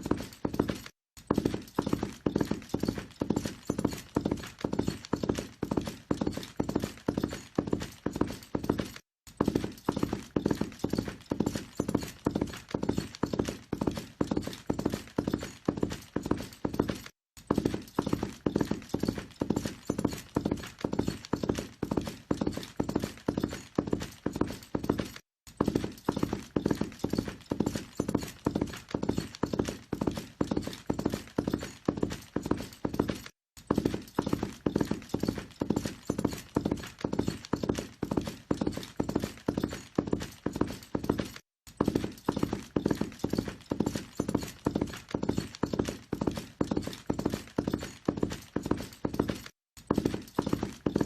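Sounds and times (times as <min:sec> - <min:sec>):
horse hoofbeats galloping: 0:00.0 - 0:51.0.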